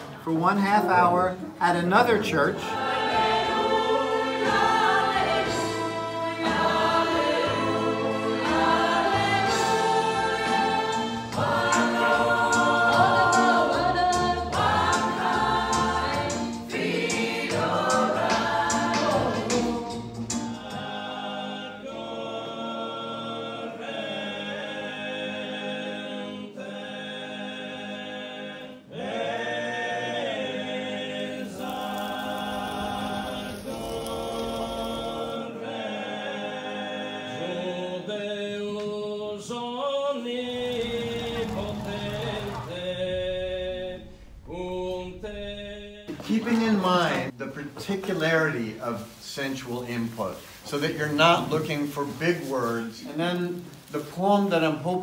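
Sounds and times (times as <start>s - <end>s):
mixed choir singing: 2.0s - 47.4s.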